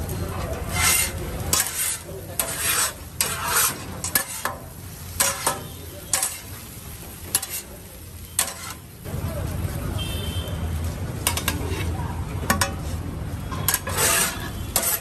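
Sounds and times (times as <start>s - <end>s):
steel scrapers scraping griddle: 0.0s - 7.8s, 8.4s - 8.9s, 11.2s - 15.0s
faint sizzle: 0.0s - 15.0s.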